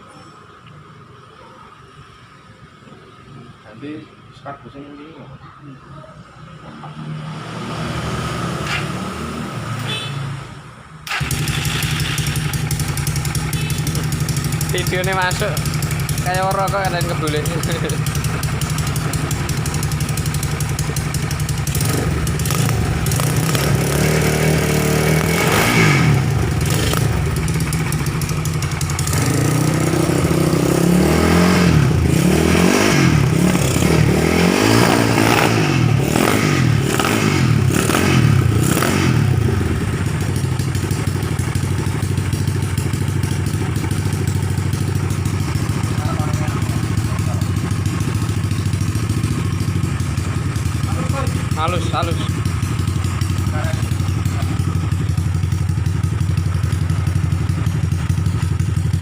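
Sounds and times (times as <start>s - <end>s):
motorcycle engine revving: 6.7s - 59.0s.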